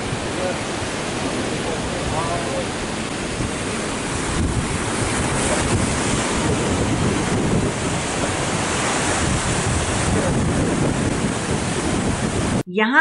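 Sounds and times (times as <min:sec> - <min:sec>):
ocean waves breaking on rocks: 0:00.0 - 0:12.6.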